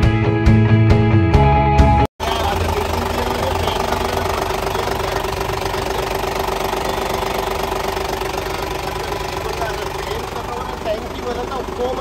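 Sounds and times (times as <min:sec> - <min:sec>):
diesel engine idling: 0:02.2 - 0:12.0.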